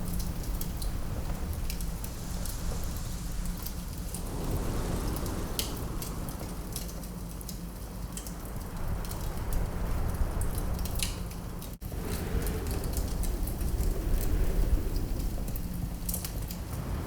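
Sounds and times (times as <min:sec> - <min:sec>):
low rush of wind: 0:00.0 - 0:17.0
wood fire crackling: 0:00.0 - 0:17.0.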